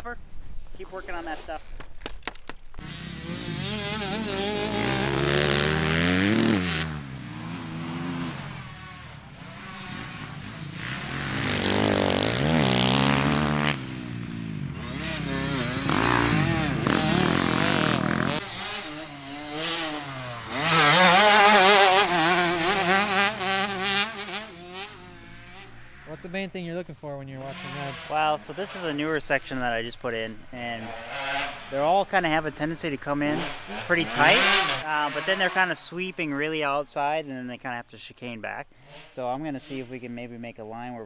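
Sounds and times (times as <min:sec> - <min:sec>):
dirt bike engines revving: 0:02.8 - 0:36.9.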